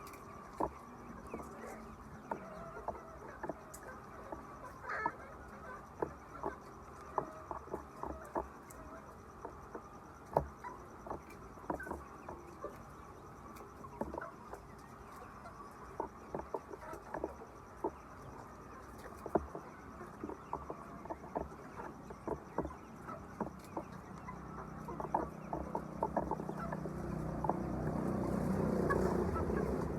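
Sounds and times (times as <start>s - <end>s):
hens clucking: 0.0s - 29.9s
hens pecking taps: 0.0s - 29.9s.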